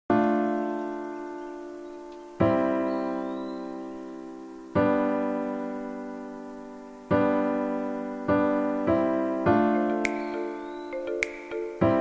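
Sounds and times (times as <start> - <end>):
slow piano chords: 0.1 - 12.0.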